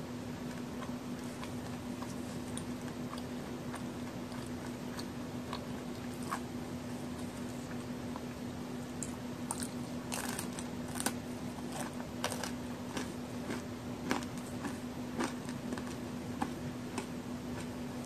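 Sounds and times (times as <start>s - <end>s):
crunching and chewing cookie: 0.0s - 18.0s
steady low hum: 0.0s - 18.0s.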